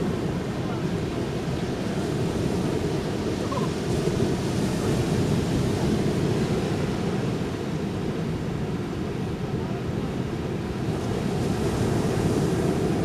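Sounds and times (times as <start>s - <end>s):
ocean surf washing on beach: 0.0s - 13.0s.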